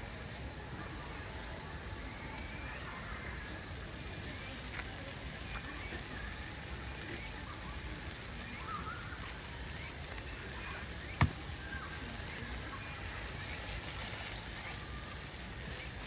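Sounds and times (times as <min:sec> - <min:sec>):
campfire hissing: 0:00.0 - 0:16.0
wood popping in fire: 0:02.3 - 0:16.0.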